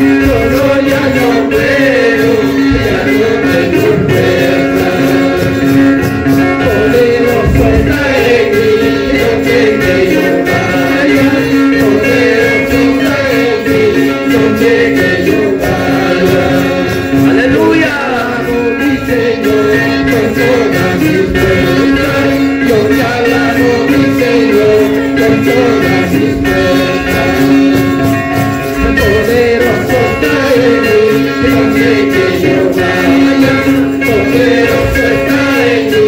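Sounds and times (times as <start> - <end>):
men singing: 0.0 - 36.0
strummed acoustic guitars: 0.0 - 36.0.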